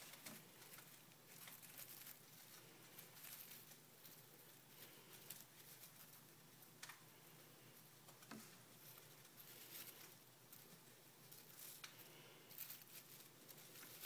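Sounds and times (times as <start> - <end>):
faint light ticks and rustles: 0.0 - 14.0.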